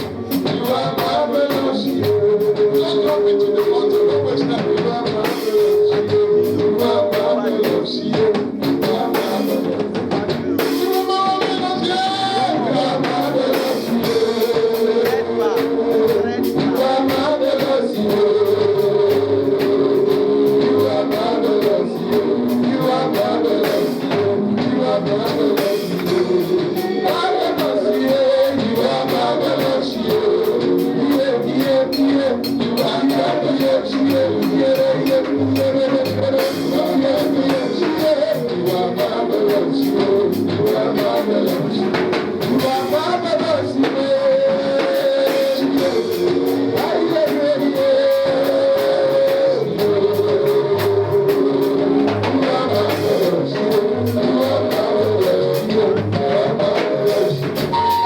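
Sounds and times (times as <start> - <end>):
drums: 0.0 - 58.0
guitar: 0.0 - 58.0
person singing: 0.0 - 58.0.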